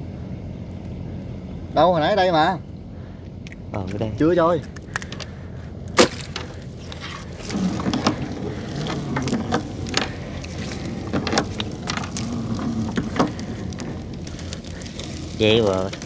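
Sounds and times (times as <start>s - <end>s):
small boat engine humming: 0.0s - 16.0s.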